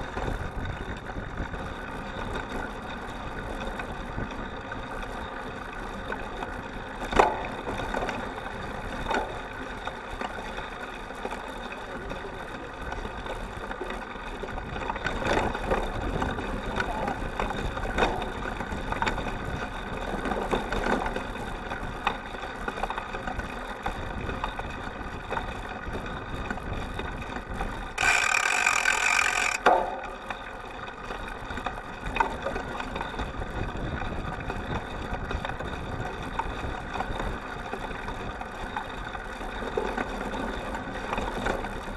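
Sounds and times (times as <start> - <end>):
bike rolling and drivetrain noise: 0.0 - 41.9.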